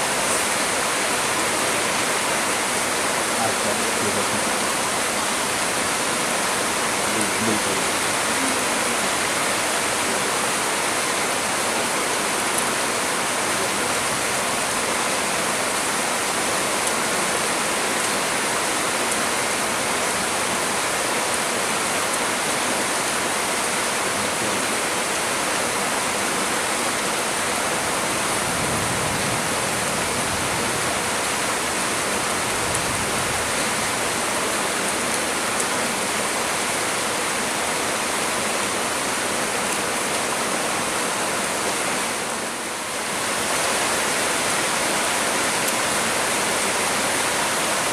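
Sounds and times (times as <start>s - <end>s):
heavy rain falling: 0.0s - 47.9s
low swelling roar of rain: 0.0s - 47.9s.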